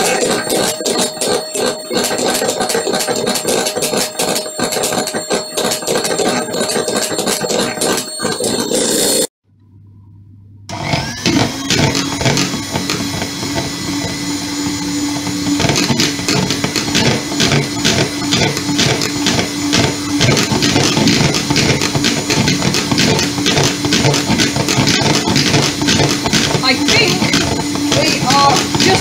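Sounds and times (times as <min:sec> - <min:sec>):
electric hand mixer whisking: 0:00.0 - 0:09.3, 0:10.7 - 0:29.0.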